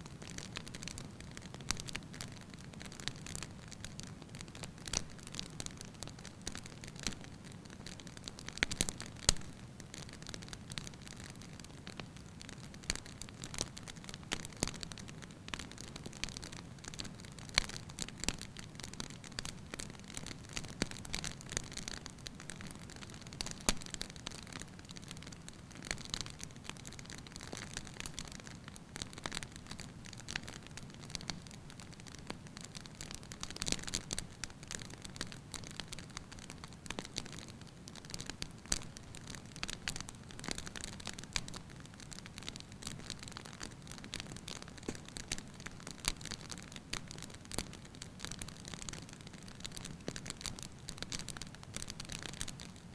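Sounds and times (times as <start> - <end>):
low rumble of burning: 0.1 - 52.9
wood fire crackling: 0.1 - 52.9.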